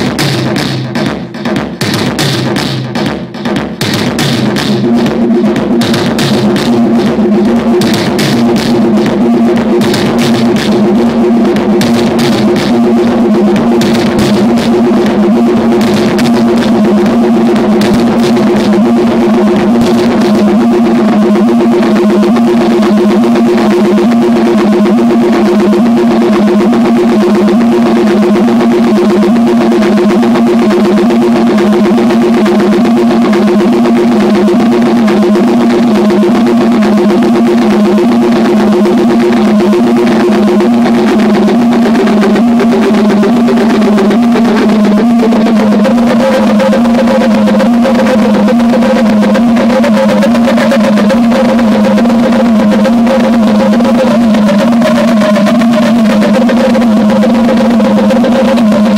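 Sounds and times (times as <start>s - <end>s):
distorted pulsing low drone: 0.0s - 58.9s
rapid clicking drum hits: 0.0s - 58.9s.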